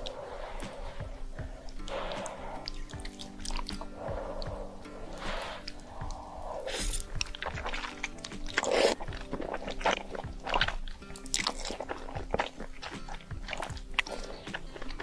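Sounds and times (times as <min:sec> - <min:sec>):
background music: 0:00.0 - 0:15.0
crunchy chewing: 0:00.0 - 0:15.0.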